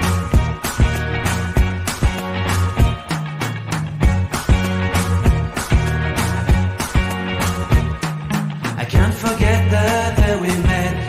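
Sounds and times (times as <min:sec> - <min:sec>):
background pop music: 0:00.0 - 0:11.0.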